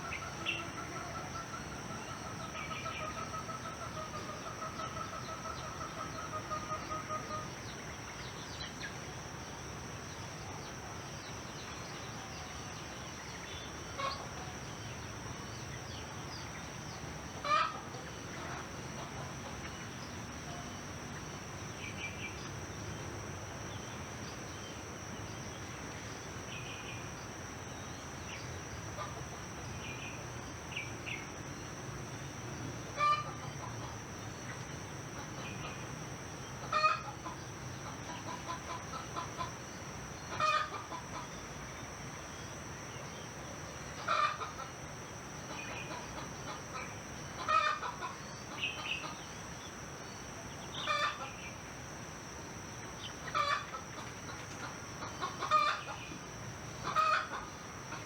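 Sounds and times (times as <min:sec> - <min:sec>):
crickets droning: 0:00.0 - 0:58.0.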